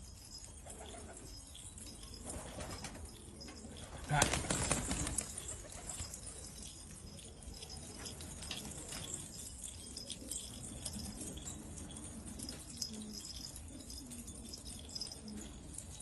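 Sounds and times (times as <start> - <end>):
pigeons clicking and jingling: 0.0 - 16.0
pigeons cooing: 0.4 - 16.0.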